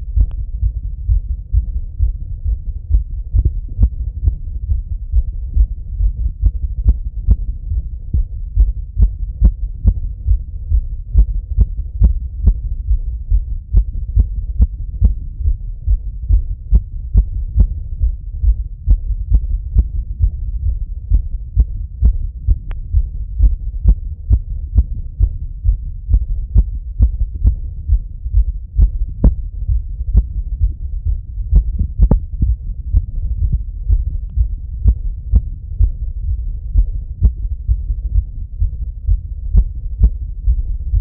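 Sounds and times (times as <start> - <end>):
heartbeat through stethoscope: 0.0 - 41.0.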